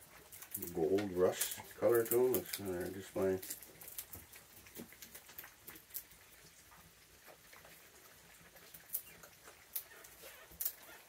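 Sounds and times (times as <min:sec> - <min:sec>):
raccoons crunching treats: 0:00.0 - 0:11.0.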